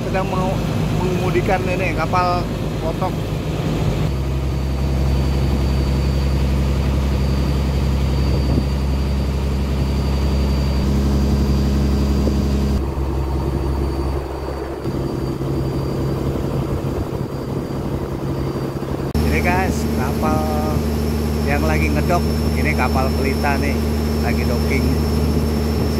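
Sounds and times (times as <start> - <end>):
motorboat engine humming: 0.0 - 25.9.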